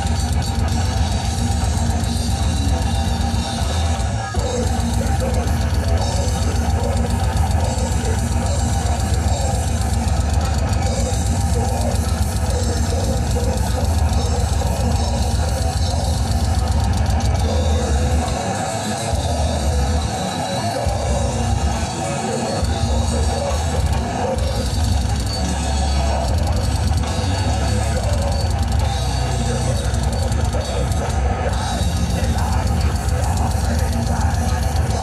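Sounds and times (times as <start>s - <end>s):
death metal band playing live: 0.0s - 35.0s
distorted guitars: 0.0s - 35.0s
drums: 0.0s - 35.0s
heavy bass: 0.0s - 35.0s.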